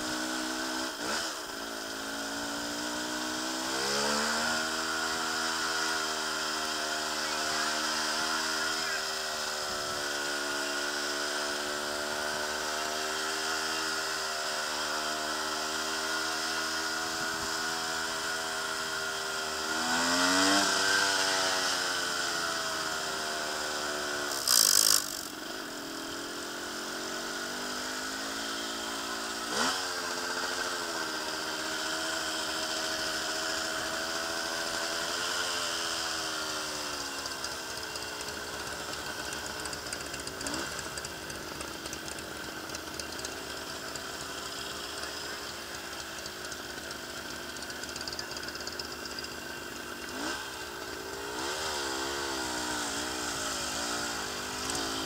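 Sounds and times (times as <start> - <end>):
two-stroke motorcycle engine revving: 0.0 - 55.0.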